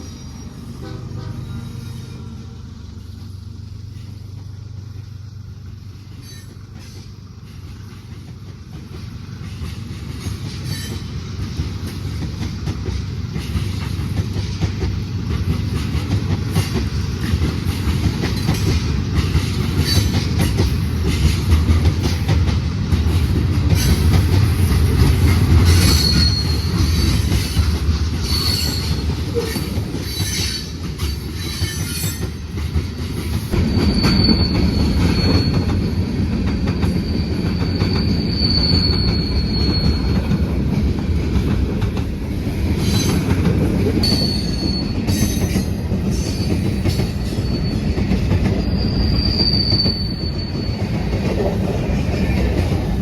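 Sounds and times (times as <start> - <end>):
train wheel squeals: 0.0 - 40.8, 42.8 - 53.0
freight train rumbling: 0.0 - 53.0.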